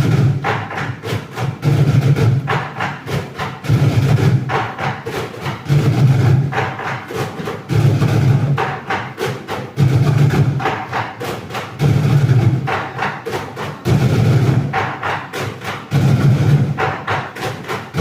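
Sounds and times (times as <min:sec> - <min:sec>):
sticks drumming on plastic buckets: 0:00.0 - 0:18.0.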